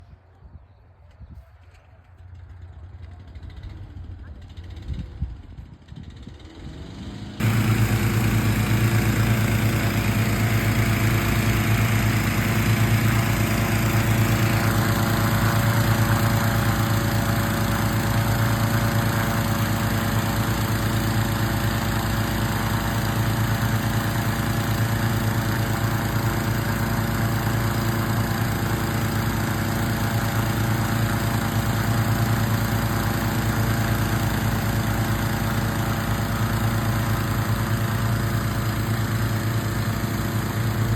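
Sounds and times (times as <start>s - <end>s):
engine running steadily: 1.9s - 40.9s.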